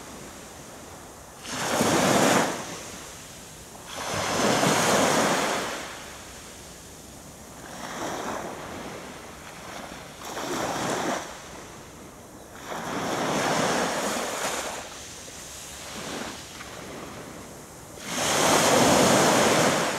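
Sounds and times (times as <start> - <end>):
waves breaking on beach: 0.0 - 19.9.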